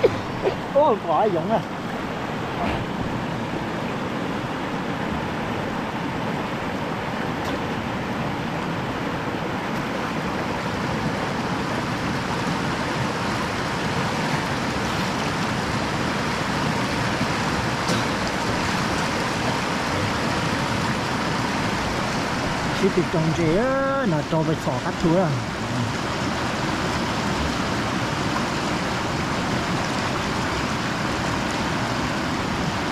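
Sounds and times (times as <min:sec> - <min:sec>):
stream water flowing over rocks: 0:00.0 - 0:32.9.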